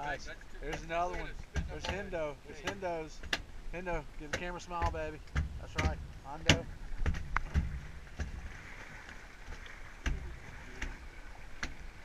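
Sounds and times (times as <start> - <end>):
low steady rumble: 0.0 - 12.0
knocks and clicks on a boat: 0.6 - 12.0.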